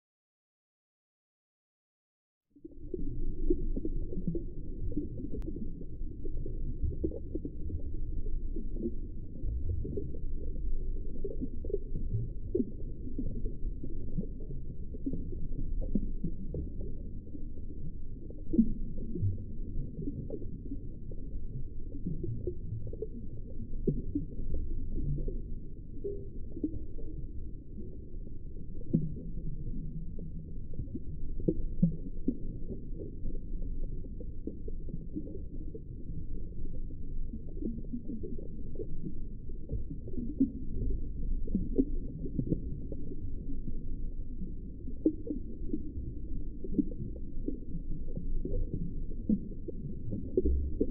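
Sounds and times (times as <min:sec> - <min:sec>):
low underwater rumble: 0:02.5 - 0:50.9.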